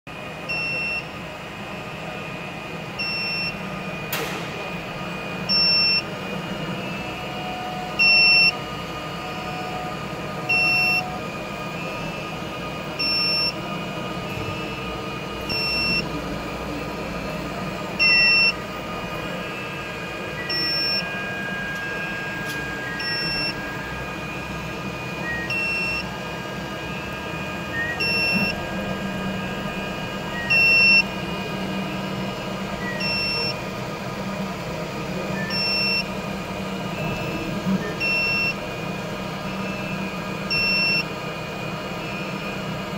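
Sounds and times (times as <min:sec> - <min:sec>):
printer machine hum: 0:00.1 - 0:42.9.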